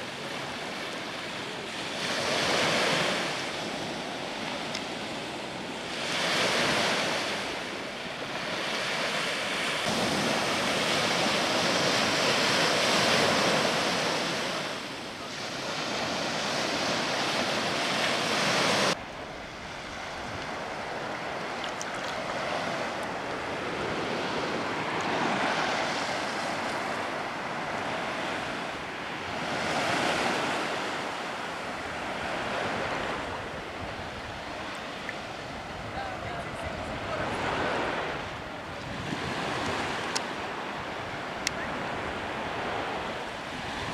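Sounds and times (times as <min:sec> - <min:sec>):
sea water lapping: 0:00.0 - 0:43.9
wind on microphone: 0:01.5 - 0:43.9.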